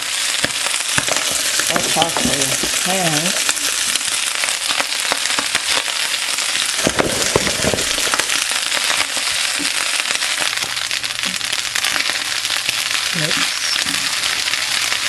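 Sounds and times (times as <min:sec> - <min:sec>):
rice sizzling in hot oil: 0:00.0 - 0:15.0.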